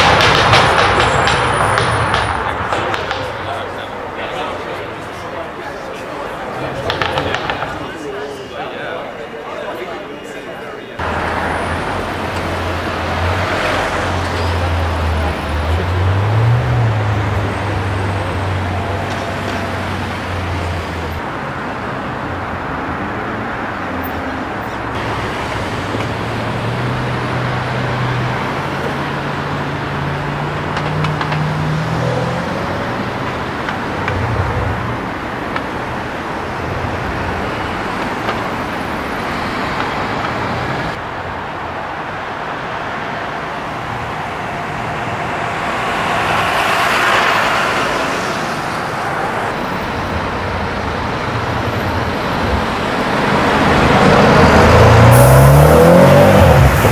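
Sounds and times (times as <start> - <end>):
road traffic: 0.0 - 56.9.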